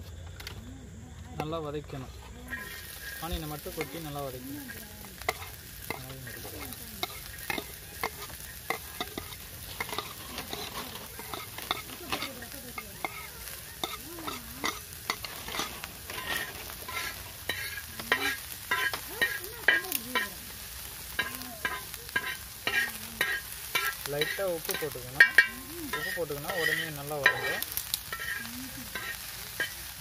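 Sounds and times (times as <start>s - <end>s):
onions sizzling in a pan: 0.0s - 30.0s
metal spatula scraping a pan: 2.4s - 30.0s.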